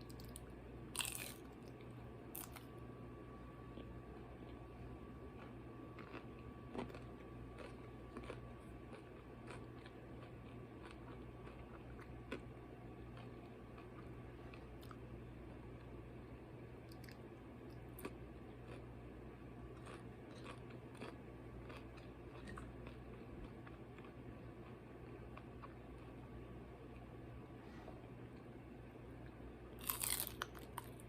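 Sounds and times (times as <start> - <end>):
faint low hum: 0.0 - 31.0
person chewing food: 1.0 - 2.7, 3.7 - 19.0, 19.7 - 26.2, 29.2 - 31.0.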